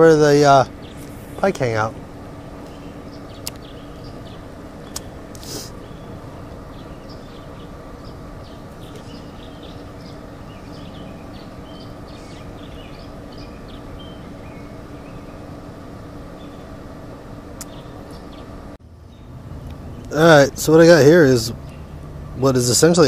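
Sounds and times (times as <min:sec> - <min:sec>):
birds chirping: 0:00.0 - 0:23.0
industrial machinery hum: 0:00.0 - 0:23.0.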